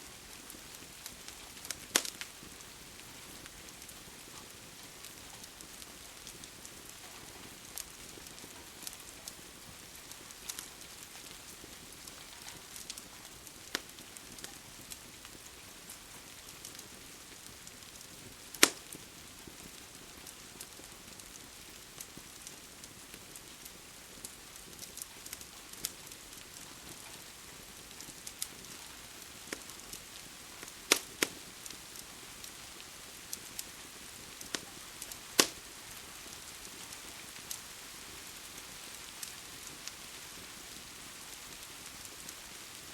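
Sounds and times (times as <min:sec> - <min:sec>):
crackling wood fire: 0:00.0 - 0:42.9
rain hiss: 0:00.0 - 0:42.9
fire sharp pops: 0:00.1 - 0:42.9.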